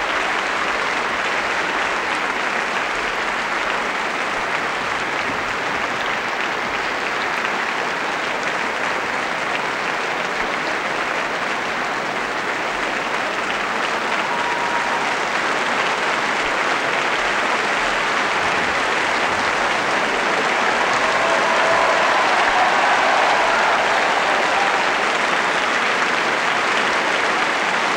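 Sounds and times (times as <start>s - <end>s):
large audience applauding: 0.0s - 27.9s.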